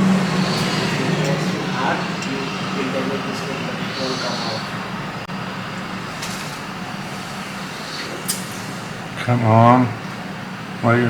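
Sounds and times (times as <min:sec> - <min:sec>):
hot-air station blowing: 0:00.0 - 0:11.0.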